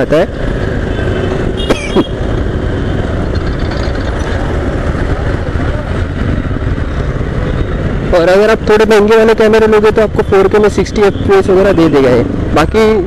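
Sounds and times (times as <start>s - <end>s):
city traffic: 0.0s - 13.0s
motorcycle rumble: 0.0s - 13.0s.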